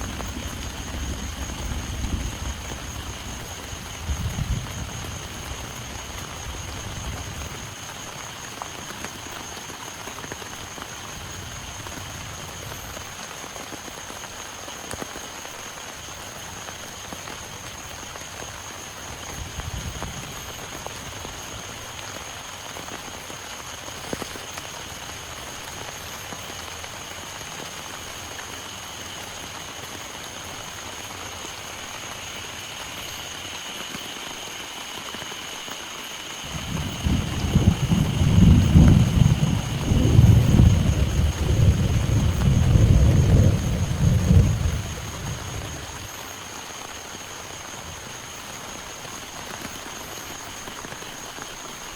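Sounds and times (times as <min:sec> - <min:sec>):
heavy rain pattering: 0:00.0 - 0:51.9.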